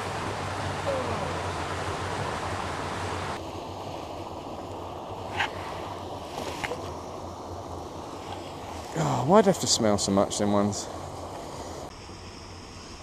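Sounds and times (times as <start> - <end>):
river water flowing: 0.0 - 13.0
wind: 0.0 - 13.0.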